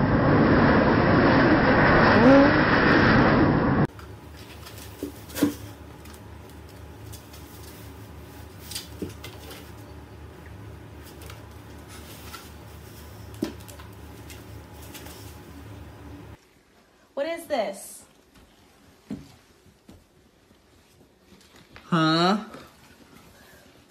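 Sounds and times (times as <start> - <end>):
low room hum: 0.0 - 23.9.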